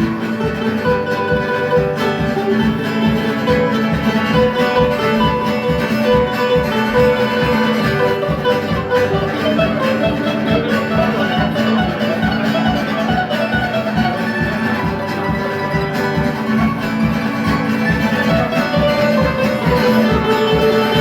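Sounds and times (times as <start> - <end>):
plucked guitar lead: 0.0 - 21.0
steady drum beat: 0.0 - 21.0.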